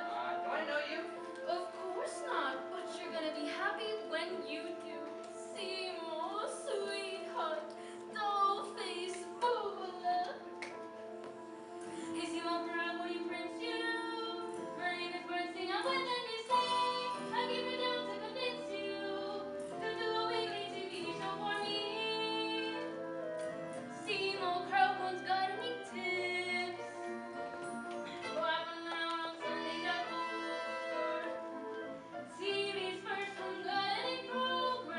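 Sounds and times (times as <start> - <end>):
instrumental accompaniment: 0.0 - 34.9
woman singing: 1.4 - 10.6, 12.0 - 23.0, 23.9 - 31.5, 32.3 - 34.9.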